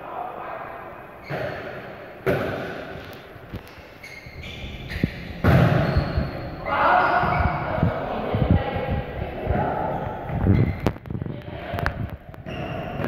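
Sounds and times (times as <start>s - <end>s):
players' voices in a hall: 0.0s - 13.0s.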